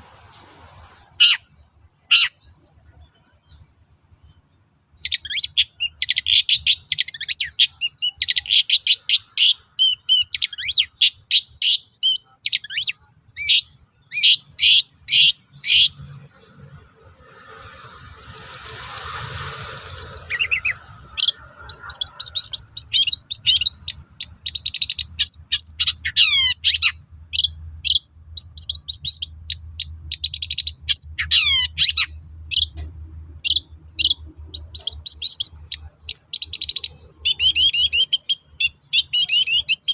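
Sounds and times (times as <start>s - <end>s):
bird singing sharp chirps: 0.2s - 32.8s, 33.4s - 39.9s
rapid bird trill: 1.0s - 32.8s, 33.4s - 39.9s.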